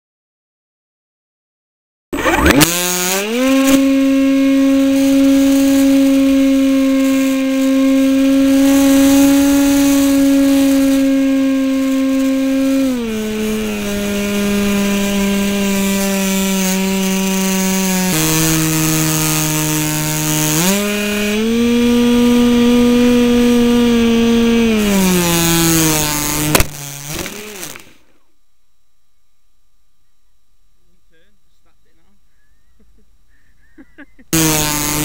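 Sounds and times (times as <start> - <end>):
model plane engine buzzing: 2.2 - 28.4, 29.0 - 35.0.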